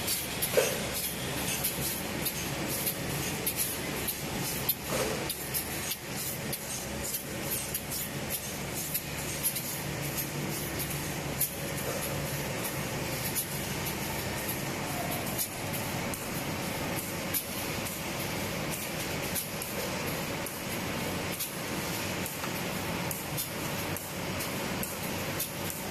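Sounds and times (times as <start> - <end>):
machine hum and hiss: 0.0 - 25.9.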